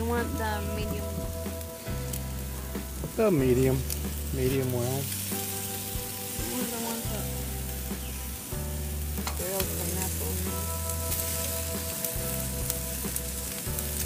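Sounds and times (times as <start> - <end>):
food sizzling on a grill: 0.0 - 14.0
low steady tones: 0.0 - 14.0.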